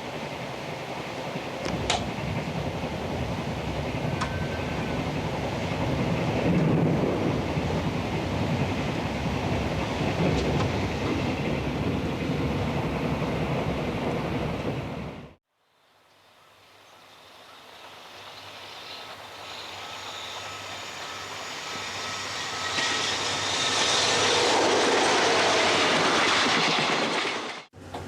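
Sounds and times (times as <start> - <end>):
train rumbling on rails: 0.0 - 15.4, 16.8 - 28.0.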